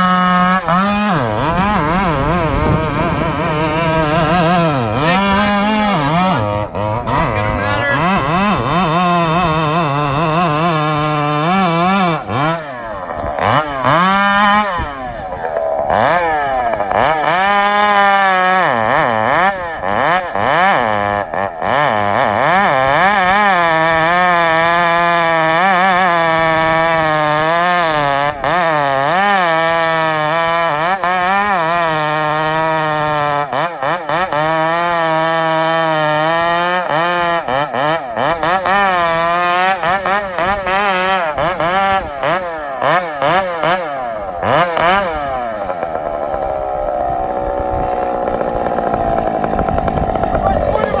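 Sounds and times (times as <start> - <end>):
chainsaw cutting at high revs: 0.0 - 51.0.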